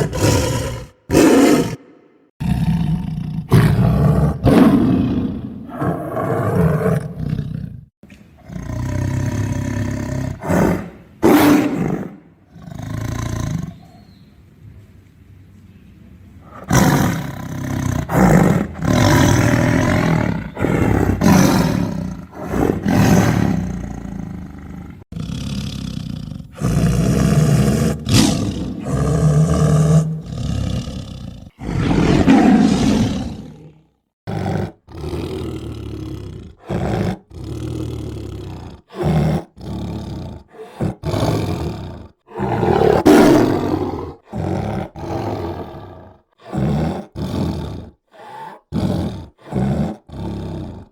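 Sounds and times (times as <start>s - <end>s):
tiger roaring and snarling: 0.0s - 14.0s, 16.4s - 50.9s.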